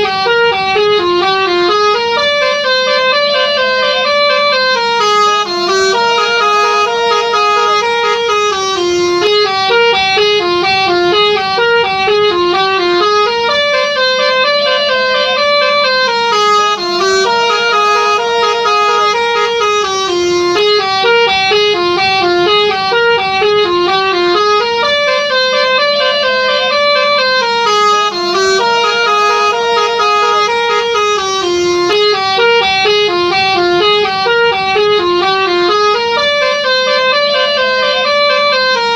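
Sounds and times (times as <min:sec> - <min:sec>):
multi-tone bus horn melody: 0:00.0 - 0:38.9.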